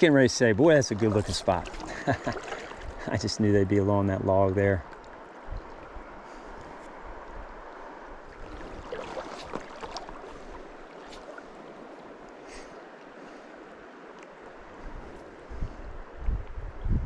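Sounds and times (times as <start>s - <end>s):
stream water flowing: 0.0s - 16.7s.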